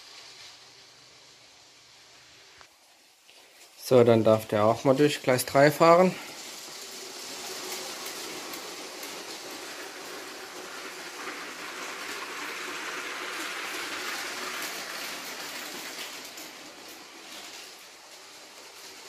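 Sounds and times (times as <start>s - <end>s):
toy train wheels rattling on track: 0.0s - 2.0s, 3.0s - 19.0s.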